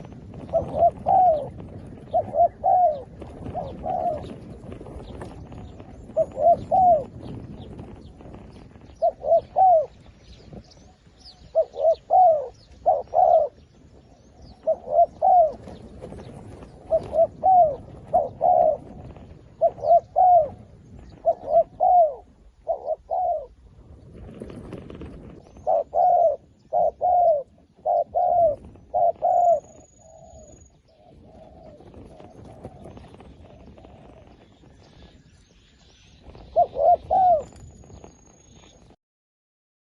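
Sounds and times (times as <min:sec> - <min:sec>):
small birds chirping: 0:00.0 - 0:23.6, 0:24.2 - 0:39.0
doves cooing: 0:00.0 - 0:38.8.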